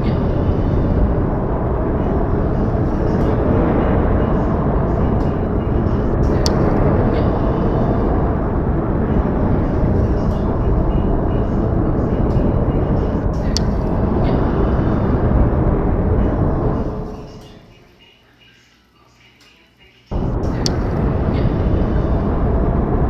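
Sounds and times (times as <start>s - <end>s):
low rushing noise: 0.0s - 17.9s, 20.1s - 23.0s.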